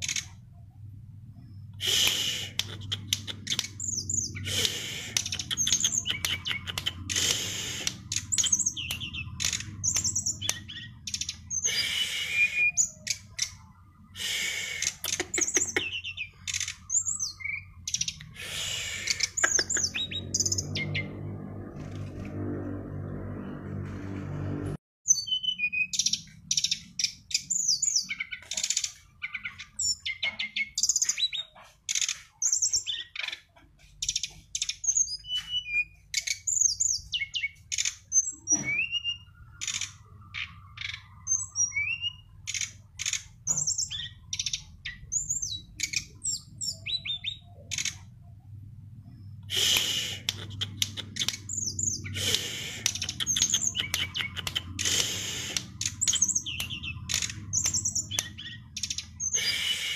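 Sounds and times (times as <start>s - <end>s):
songbird singing: 0.0s - 22.0s, 25.1s - 59.9s.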